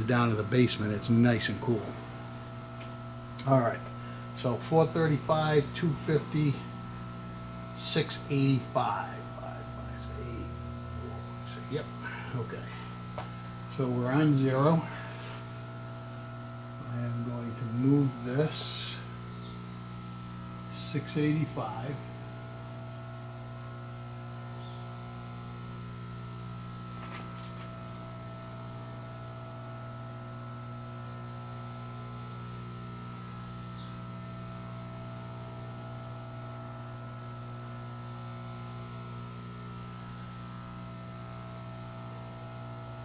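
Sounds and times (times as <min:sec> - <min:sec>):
shop machinery electric hum: 0:00.0 - 0:43.0.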